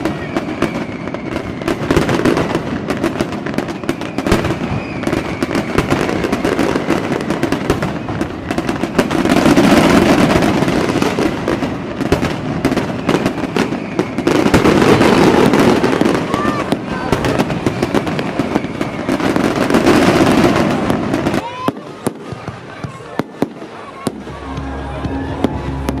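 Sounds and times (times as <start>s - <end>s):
fireworks popping and banging: 0.0s - 26.0s.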